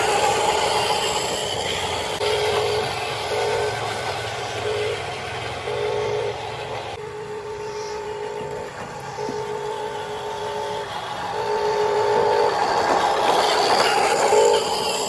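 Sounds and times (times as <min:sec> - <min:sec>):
toy excavator motors whining: 0:00.0 - 0:15.0.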